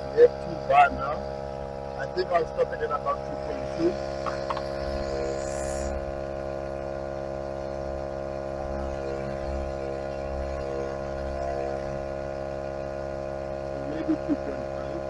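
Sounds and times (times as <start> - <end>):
tyre inflator buzzing hum: 0.0 - 15.0.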